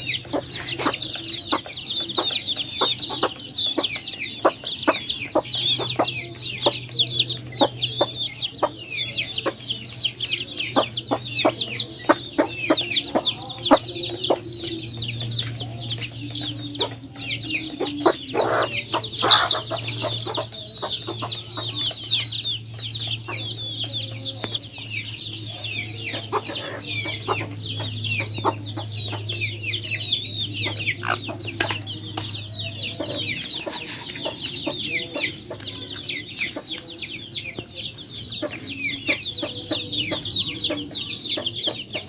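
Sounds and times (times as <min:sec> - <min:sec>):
chicks peeping: 0:00.0 - 0:42.0
steady low hum: 0:00.0 - 0:42.0.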